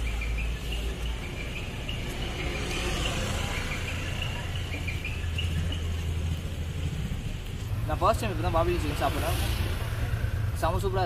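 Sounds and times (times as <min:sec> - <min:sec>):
road traffic rumbling: 0:00.0 - 0:11.0.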